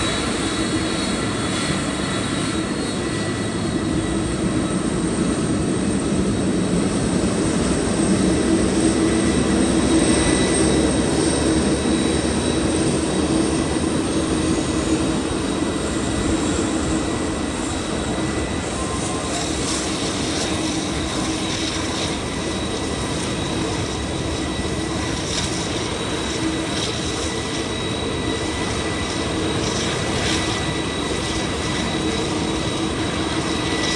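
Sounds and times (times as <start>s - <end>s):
high-pitched jet whine: 0.0s - 33.9s
jet engine rumble: 0.0s - 33.9s.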